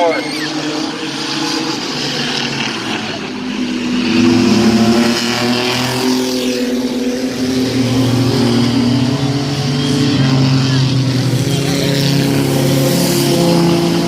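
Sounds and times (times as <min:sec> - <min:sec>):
race truck engines running: 0:00.0 - 0:14.0.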